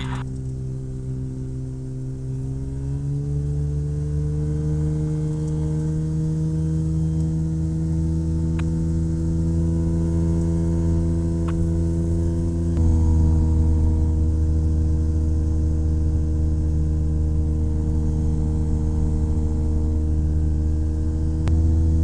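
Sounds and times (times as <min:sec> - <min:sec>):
aircraft engine throttling up: 0:00.0 - 0:22.0.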